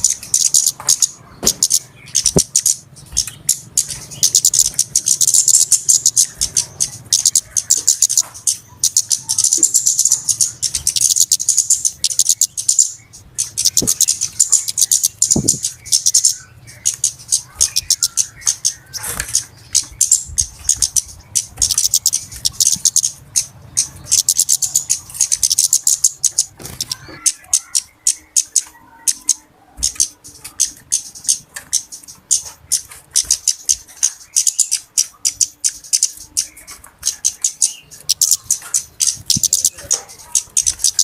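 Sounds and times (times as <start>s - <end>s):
birds chattering: 0.0s - 41.0s.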